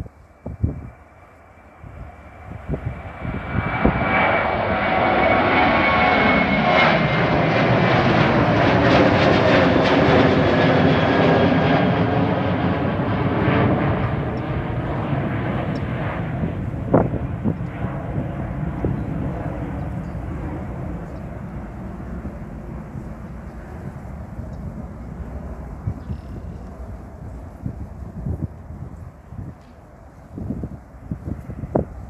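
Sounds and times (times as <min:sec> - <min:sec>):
high jet fan whine: 0:00.0 - 0:32.0
jet plane passing overhead: 0:00.0 - 0:32.0.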